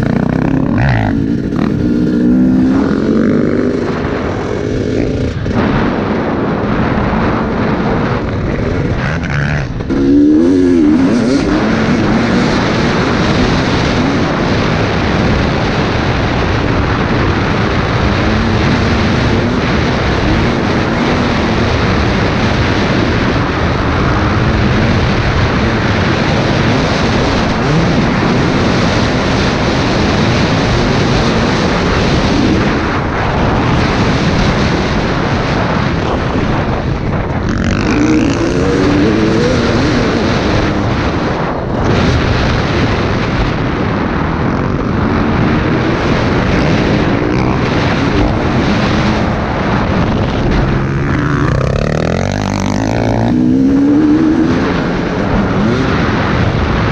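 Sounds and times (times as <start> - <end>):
two-stroke motorcycle engine revving: 0.0 - 56.9
wind rush on microphone: 0.0 - 56.9.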